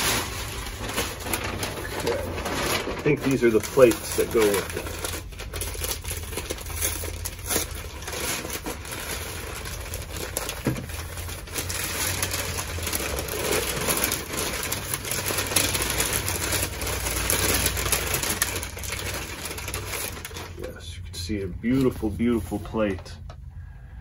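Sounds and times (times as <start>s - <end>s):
packing paper rustling: 0.0s - 23.3s
steady low hum: 0.0s - 24.0s.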